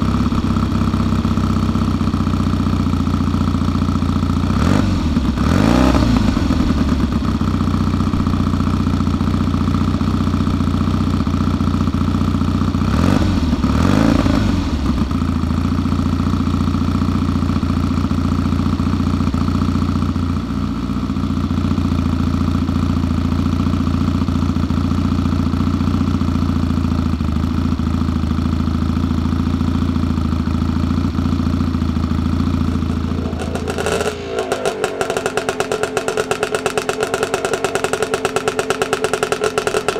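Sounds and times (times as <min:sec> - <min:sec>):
different engine: 0:00.0 - 0:39.9
motorcycle engine idling and revving: 0:00.0 - 0:39.9.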